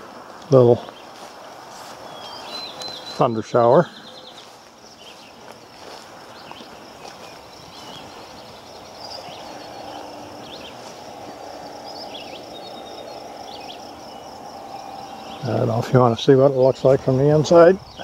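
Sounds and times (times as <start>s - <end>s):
high insect drone: 0.0s - 18.0s
steady rushing noise: 0.0s - 18.0s
bird chirps: 1.9s - 18.0s.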